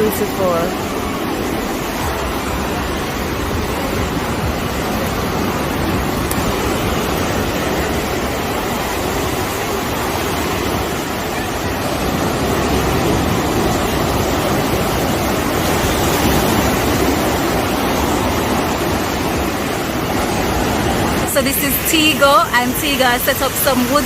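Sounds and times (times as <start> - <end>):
ocean surf washing on beach: 0.0 - 24.0.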